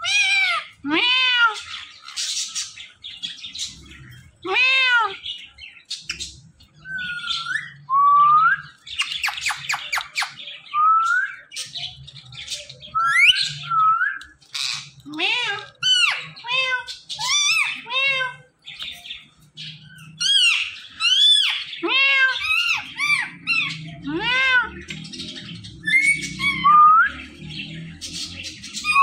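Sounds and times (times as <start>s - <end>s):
parakeets squawking: 0.0s - 7.9s, 8.6s - 29.0s.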